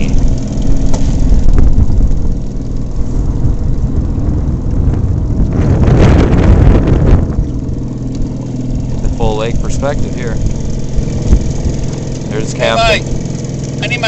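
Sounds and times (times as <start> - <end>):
wind rumbling on microphone: 0.0 - 13.3
motorboat engine running: 0.0 - 14.0.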